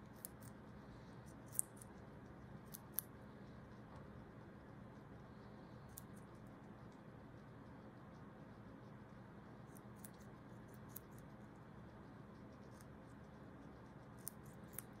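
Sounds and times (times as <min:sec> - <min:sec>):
guinea pigs chewing carrots: 0:00.0 - 0:15.0
low background hum: 0:00.0 - 0:15.0.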